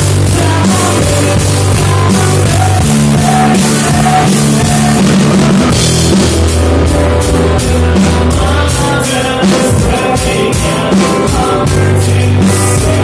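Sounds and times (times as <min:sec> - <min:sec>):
drum kit: 0:00.0 - 0:13.0
guitars: 0:00.0 - 0:13.0
low bass notes: 0:00.0 - 0:13.0.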